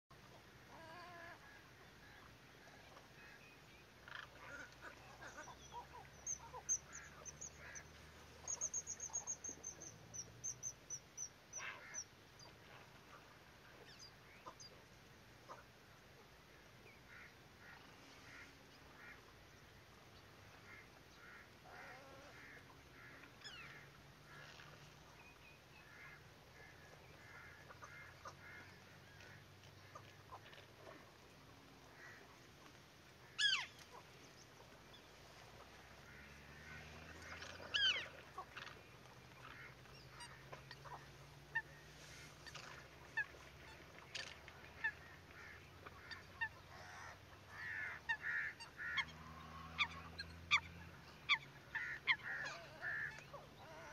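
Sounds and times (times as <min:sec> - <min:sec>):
wild bird calls: 0:00.3 - 0:14.8, 0:16.8 - 0:53.9.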